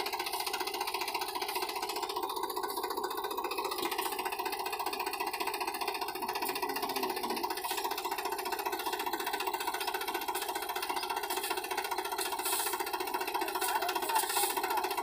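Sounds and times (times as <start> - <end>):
tractor diesel engine straining: 0.0 - 15.0.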